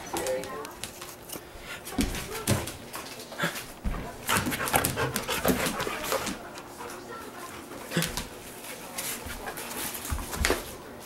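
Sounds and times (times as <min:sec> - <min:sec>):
dog paws clicking on tiles: 0:00.0 - 0:10.8.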